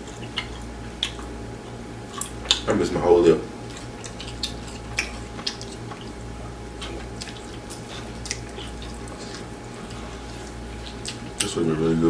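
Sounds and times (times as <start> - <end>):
lip smacks: 0.0 - 2.8, 3.5 - 11.6
person chewing: 0.0 - 12.0.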